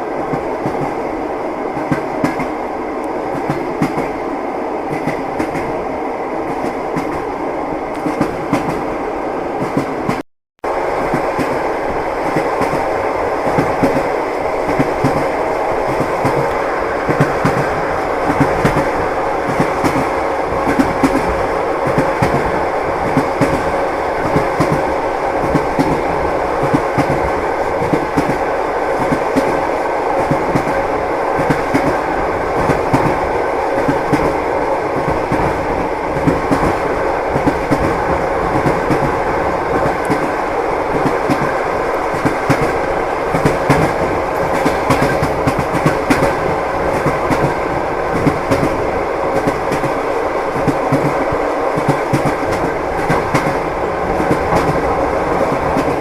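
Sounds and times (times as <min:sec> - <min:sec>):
train rolling rumble: 0:00.0 - 0:56.0
train wheels clickety-clack: 0:00.3 - 0:01.0, 0:01.7 - 0:04.2, 0:04.9 - 0:05.8, 0:06.5 - 0:07.3, 0:07.9 - 0:08.9, 0:09.6 - 0:10.2, 0:11.0 - 0:56.0.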